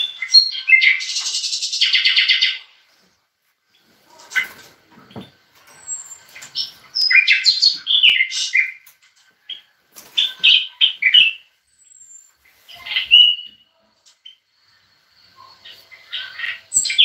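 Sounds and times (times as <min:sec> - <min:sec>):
songbird singing whistled notes: 0:00.0 - 0:02.7, 0:05.7 - 0:17.0.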